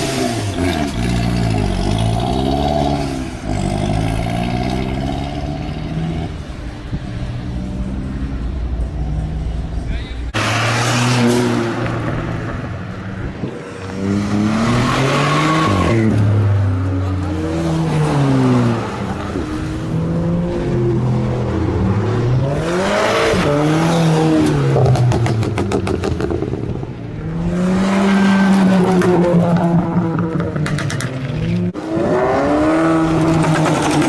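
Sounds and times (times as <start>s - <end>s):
car engines revving: 0.0s - 34.0s
exhaust crackles: 0.0s - 34.0s.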